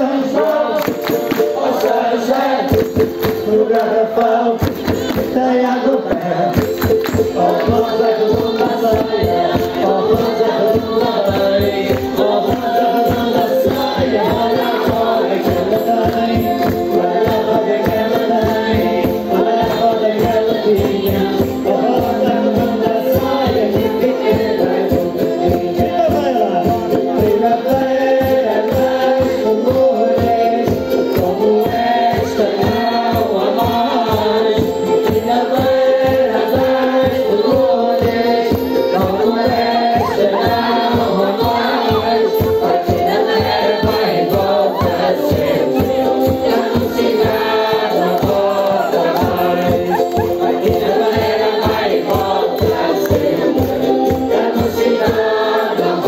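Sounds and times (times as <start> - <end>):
group singing in chorus: 0.0 - 56.0
rattling percussion: 0.0 - 56.0.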